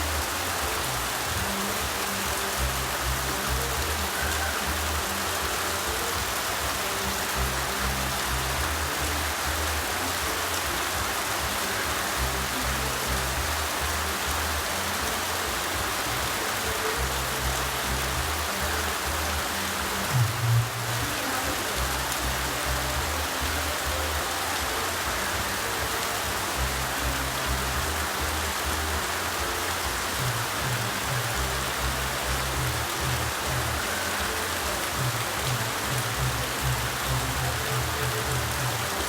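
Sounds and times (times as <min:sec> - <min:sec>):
background music with bass line: 0:00.0 - 0:39.0
heavy rain falling: 0:00.0 - 0:39.0.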